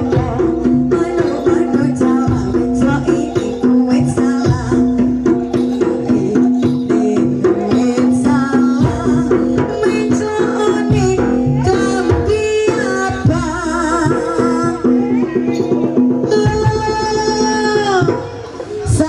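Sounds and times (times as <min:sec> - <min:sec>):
hand drums and percussion: 0:00.0 - 0:19.0
held pitched tones: 0:00.0 - 0:19.0
wavering melody: 0:00.0 - 0:19.0.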